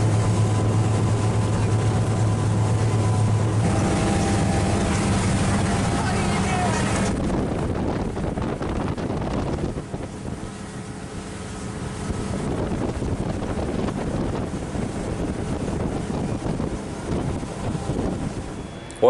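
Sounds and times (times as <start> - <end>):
wind buffeting microphone: 0.0 - 18.8
boat engine running: 0.0 - 19.0.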